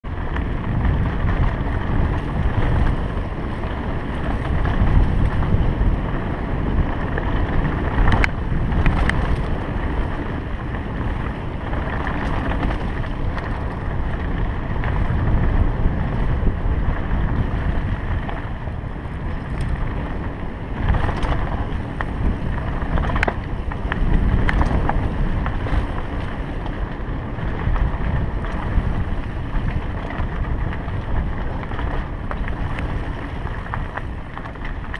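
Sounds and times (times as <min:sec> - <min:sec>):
bike rattling over bumps: 0:00.0 - 0:34.9
tyres rumbling on dirt: 0:00.0 - 0:34.9
wind buffeting microphone: 0:00.0 - 0:34.9.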